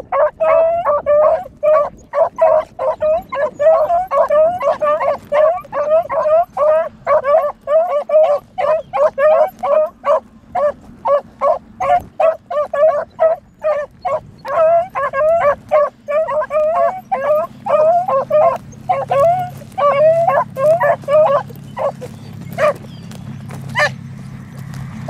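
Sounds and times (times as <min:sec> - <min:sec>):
dogs baying: 0:00.0 - 0:25.0.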